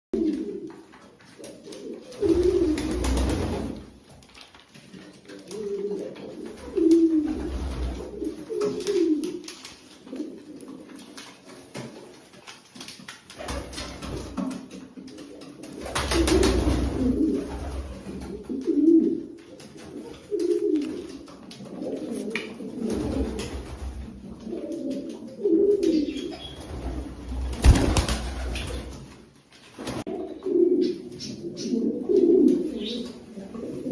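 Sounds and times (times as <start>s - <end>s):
pigeons cooing: 0.2s - 3.9s, 5.1s - 11.2s, 13.4s - 29.0s, 30.0s - 33.9s.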